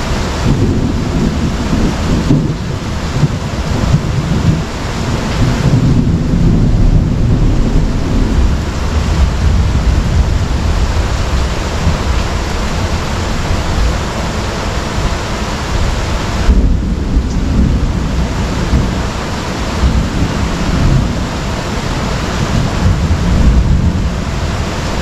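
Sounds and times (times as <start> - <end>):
heavy rain pouring: 0.0 - 25.0
low rumble of thunder: 0.0 - 25.0.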